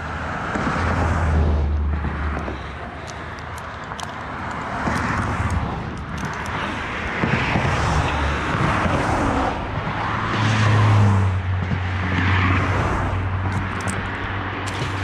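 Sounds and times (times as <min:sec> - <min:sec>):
cars passing on road: 0:00.0 - 0:15.0.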